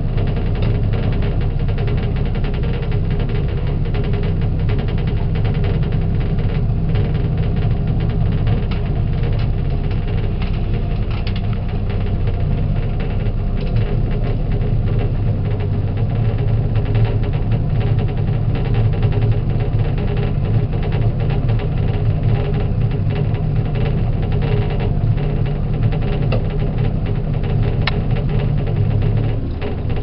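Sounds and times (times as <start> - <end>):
motor boat engine humming: 0.0 - 30.0.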